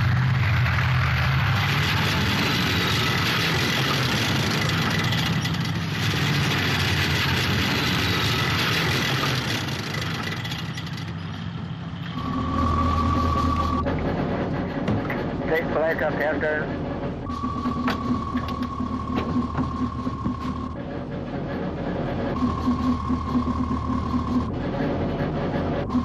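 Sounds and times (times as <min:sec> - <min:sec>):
deep engine hum with high whine: 0:00.0 - 0:26.0
tracked vehicle diesel engines: 0:00.0 - 0:26.0.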